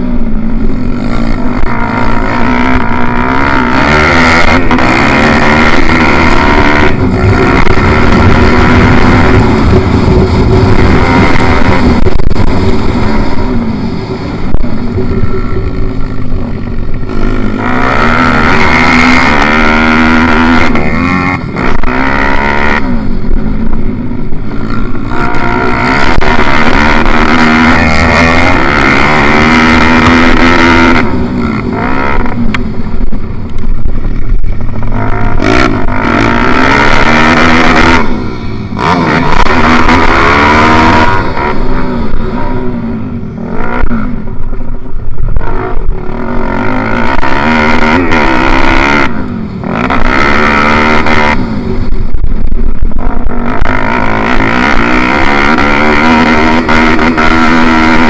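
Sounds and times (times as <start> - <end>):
small motorcycle engine revving: 0.0 - 58.0.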